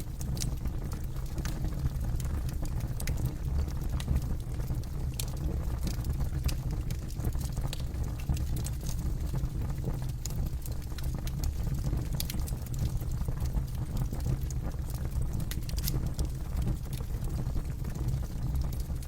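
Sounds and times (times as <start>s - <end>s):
low rumble of flames: 0.0s - 19.0s
wood crackling and popping: 0.1s - 19.0s.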